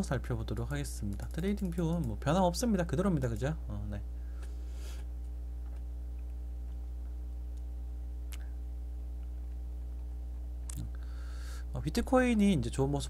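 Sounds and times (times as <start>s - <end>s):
buzzy electrical hum: 0.0s - 13.0s.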